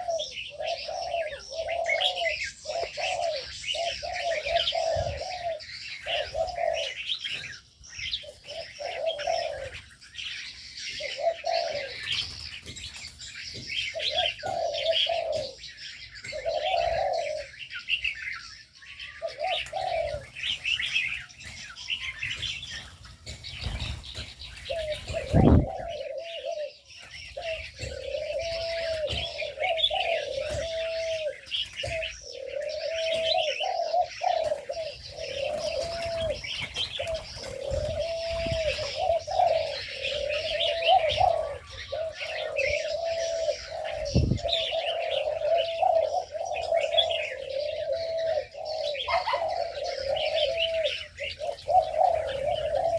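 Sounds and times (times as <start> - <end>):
doves cooing: 0.0 - 52.9
small birds chirping: 0.0 - 52.9.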